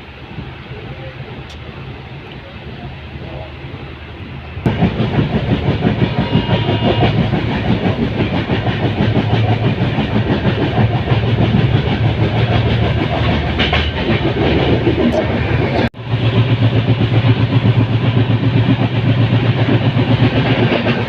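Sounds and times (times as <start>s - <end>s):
train rumbling and rattling on rails: 0.0s - 21.0s.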